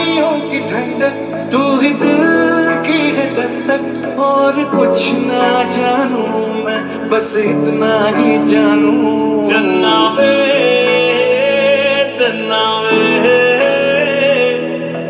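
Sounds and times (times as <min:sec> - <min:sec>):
romantic song over small speaker: 0:00.0 - 0:15.0.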